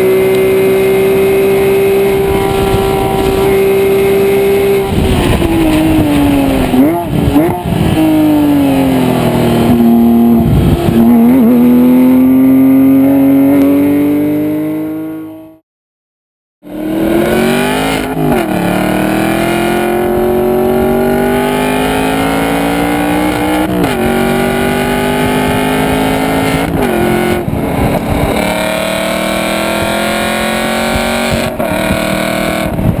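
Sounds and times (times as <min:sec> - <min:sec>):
car exhaust accelerating hard: 0:00.0 - 0:15.2, 0:16.7 - 0:33.0.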